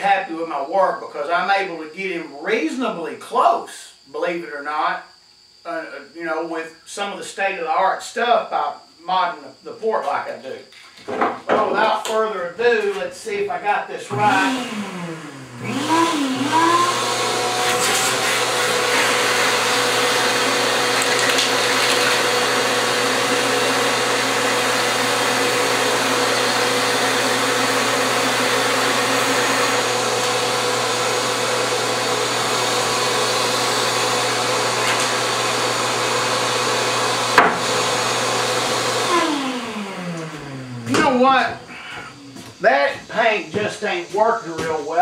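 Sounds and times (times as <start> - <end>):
shop vacuum motor whine: 8.4 - 45.0.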